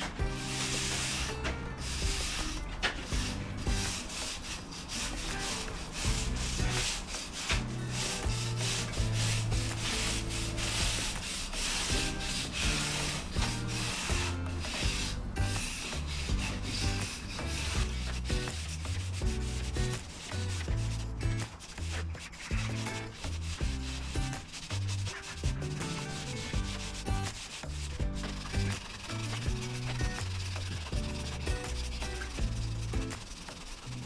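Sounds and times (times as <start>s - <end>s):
low bass background music: 0.0s - 34.0s
wire brush scrubbing paving: 0.0s - 34.0s.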